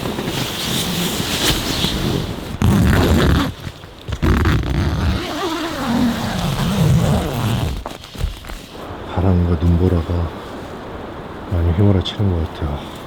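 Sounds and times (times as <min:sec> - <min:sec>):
wind gusting against a tent: 0:00.0 - 0:13.0.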